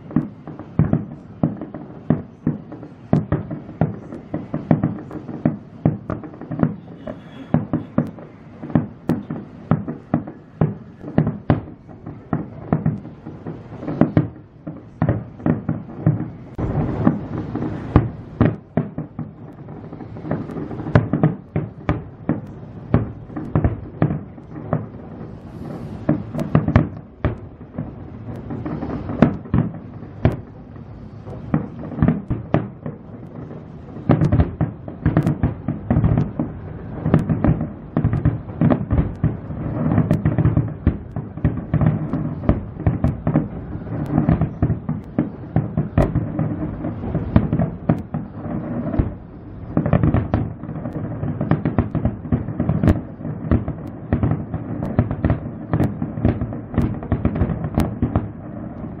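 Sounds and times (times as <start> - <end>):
fireworks booming: 0.0 - 59.0.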